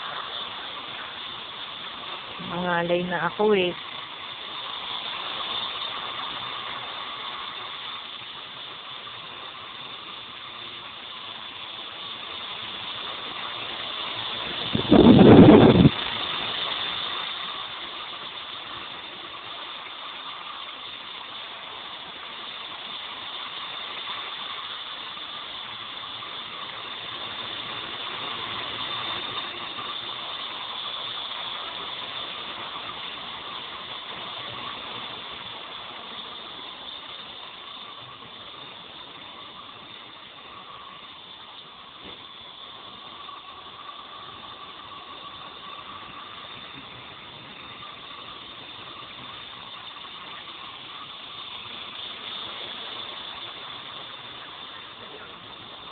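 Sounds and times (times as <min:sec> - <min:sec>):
rc helicopter whine: 0:00.0 - 0:55.9.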